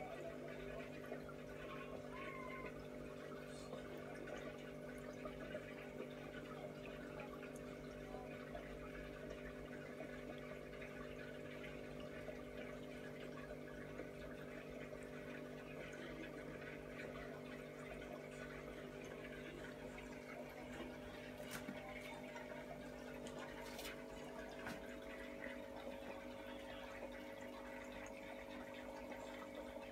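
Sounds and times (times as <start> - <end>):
filter pump motor hum: 0.0 - 29.9
water trickling and splashing: 0.0 - 29.9.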